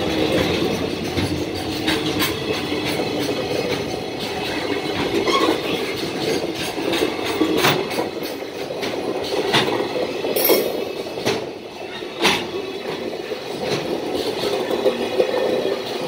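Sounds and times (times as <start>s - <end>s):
steel wheels rumbling on rails: 0.0s - 16.0s
wheels clicking over rail joints: 0.0s - 16.0s.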